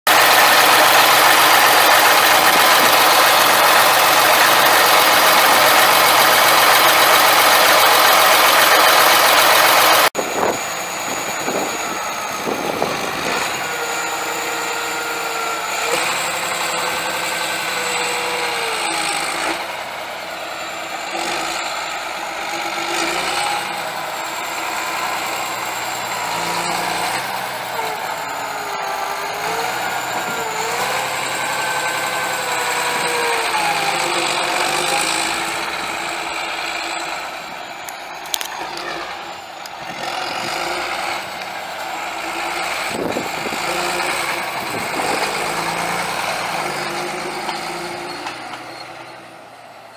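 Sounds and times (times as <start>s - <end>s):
tractor diesel engine running: 0.1s - 49.9s.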